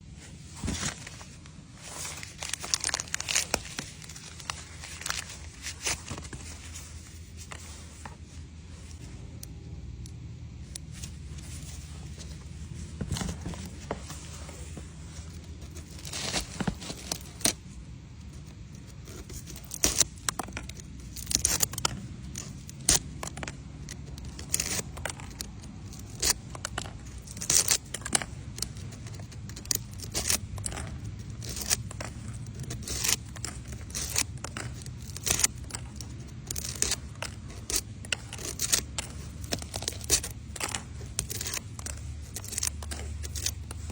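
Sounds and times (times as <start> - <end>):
steady low hum: 0.0 - 43.9
packaging crinkling and tearing: 0.5 - 7.8, 15.3 - 43.9.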